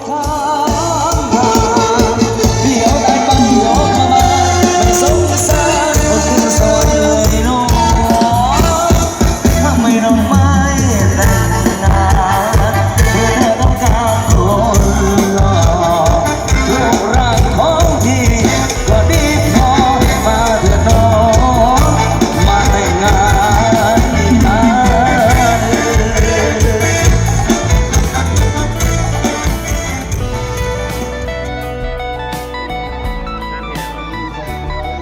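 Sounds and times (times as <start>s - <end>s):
loud music with heavy bass: 0.0s - 35.0s.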